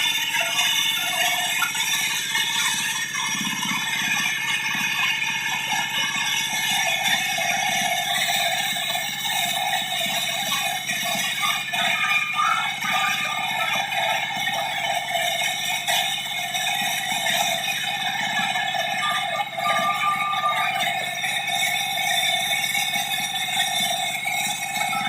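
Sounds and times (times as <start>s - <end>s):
diesel engine pulsing: 0.0s - 25.0s
saw blade whining: 0.0s - 25.0s.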